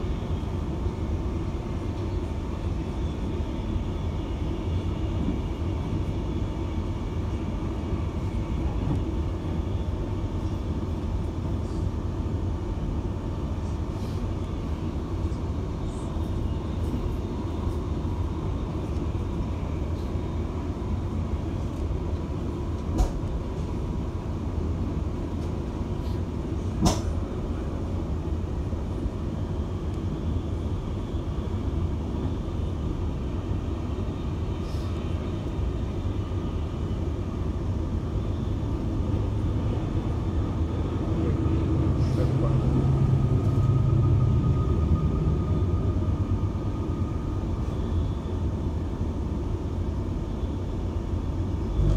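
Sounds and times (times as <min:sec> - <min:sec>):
train carriage rumbling on rails: 0:00.0 - 0:51.9.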